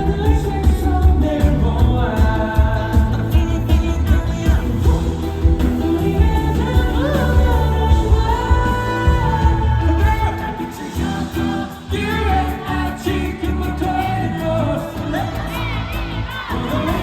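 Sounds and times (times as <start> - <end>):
band backing track with heavy bass: 0.0 - 17.0
man singing: 0.0 - 17.0.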